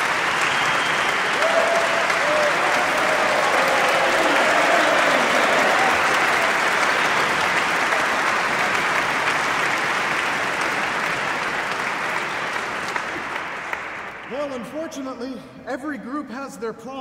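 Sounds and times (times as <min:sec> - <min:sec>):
crowd applauding: 0:00.0 - 0:14.8.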